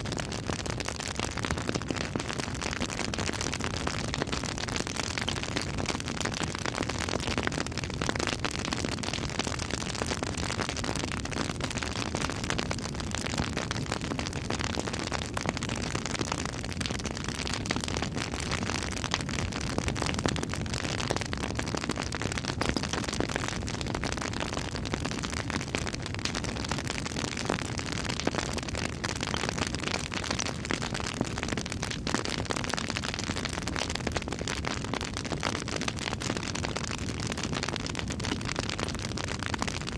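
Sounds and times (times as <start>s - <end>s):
campfire crackling and popping: 0.0s - 39.9s
continuous fire hiss: 0.0s - 39.9s.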